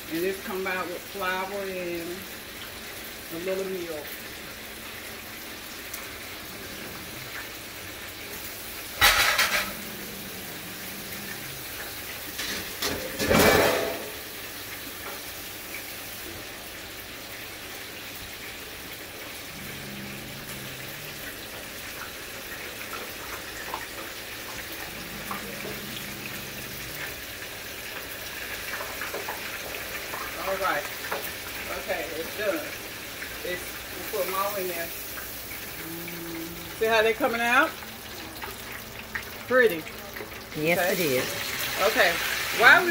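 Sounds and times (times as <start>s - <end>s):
oil sizzling in deep fryer: 0.0s - 42.9s.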